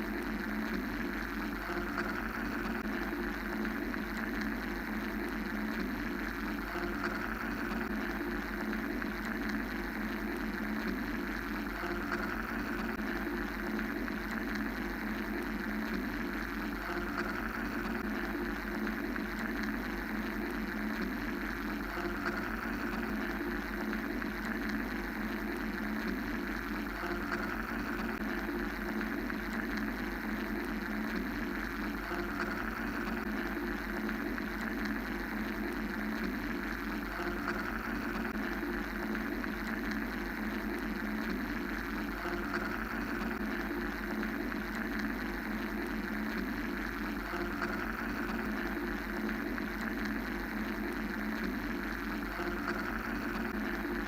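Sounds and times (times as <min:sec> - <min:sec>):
mechanical white noise: 0:00.0 - 0:54.0.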